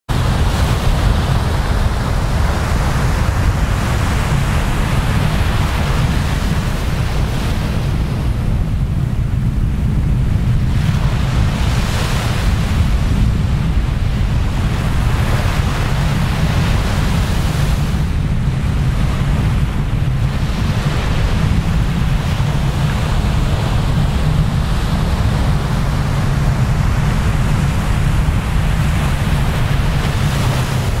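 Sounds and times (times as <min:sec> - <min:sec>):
ocean surf washing onto beach: 0:00.1 - 0:31.0
wind rumble on microphone: 0:00.1 - 0:31.0.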